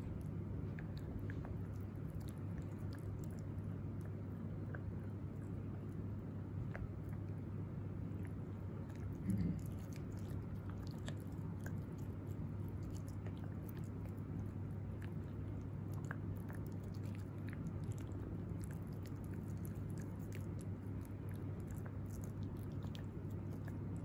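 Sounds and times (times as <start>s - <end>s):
puppy chewing: 0.0s - 24.0s
steady low hum: 0.0s - 24.0s.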